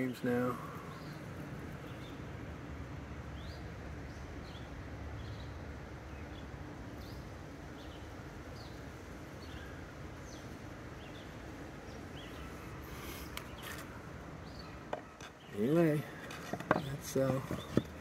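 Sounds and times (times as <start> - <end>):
small birds chirping faintly: 0.0 - 18.0.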